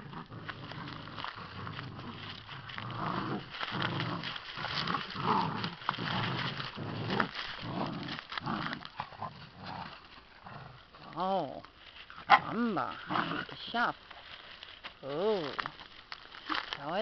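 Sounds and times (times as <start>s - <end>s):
puppies growling: 0.0s - 13.9s
scuffling on dry palm fronds: 0.0s - 17.0s.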